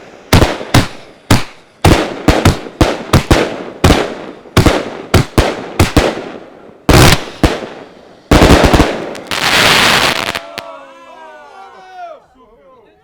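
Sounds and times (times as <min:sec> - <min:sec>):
fireworks launch shots: 0:00.0 - 0:10.6.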